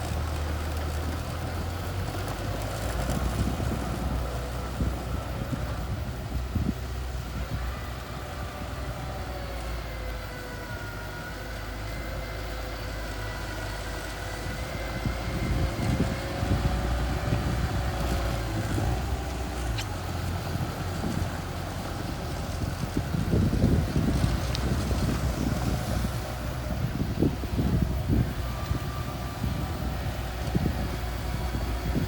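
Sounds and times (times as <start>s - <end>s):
bulldozer engine rumbling: 0.0s - 32.0s.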